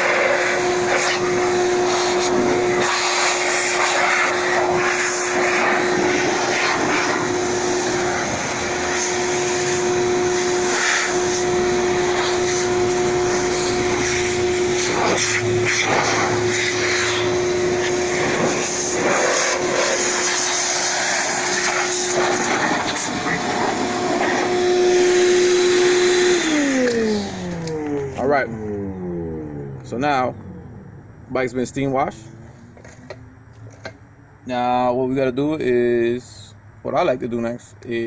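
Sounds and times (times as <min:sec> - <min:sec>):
electric blower motor whining: 0:00.0 - 0:31.2.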